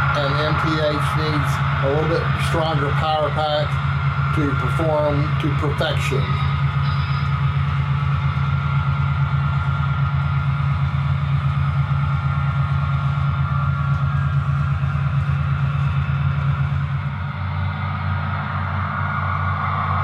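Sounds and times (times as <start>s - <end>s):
low bass rumble: 0.0s - 20.0s
model train diesel engine sound: 0.0s - 20.0s.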